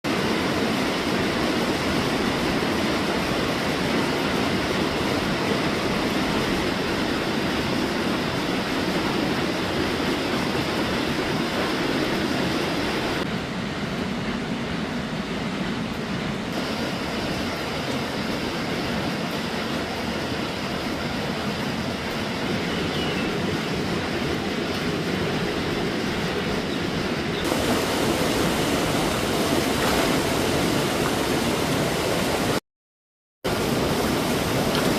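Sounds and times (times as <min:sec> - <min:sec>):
water rushing down a stream: 0:00.0 - 0:32.6, 0:33.5 - 0:34.9.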